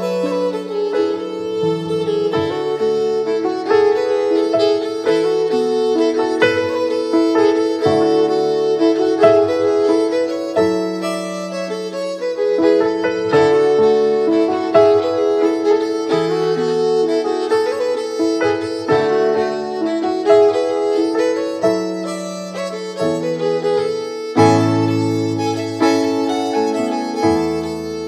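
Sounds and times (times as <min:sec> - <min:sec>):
deeper fuller music part: 0:00.0 - 0:28.0
held melodic notes: 0:00.0 - 0:28.0.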